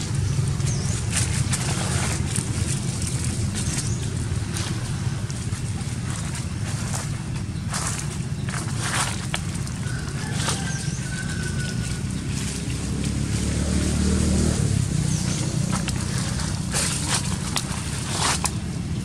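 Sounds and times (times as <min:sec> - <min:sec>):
dry leaves rustling: 0:00.0 - 0:19.0
low rumble: 0:00.0 - 0:19.0.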